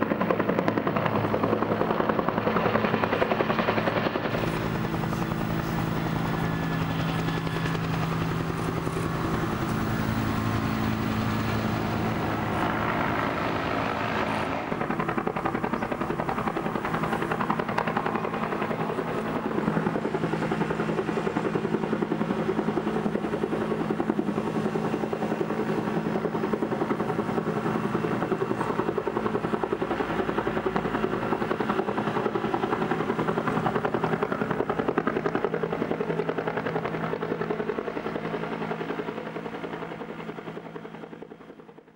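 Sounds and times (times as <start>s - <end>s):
helicopter rotor and turbine: 0.0s - 41.9s.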